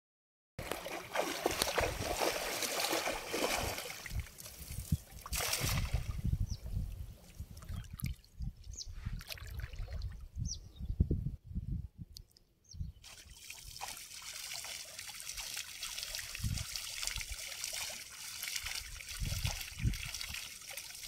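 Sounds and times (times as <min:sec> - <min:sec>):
water splashing and trickling: 0:00.6 - 0:10.3, 0:13.0 - 0:21.0.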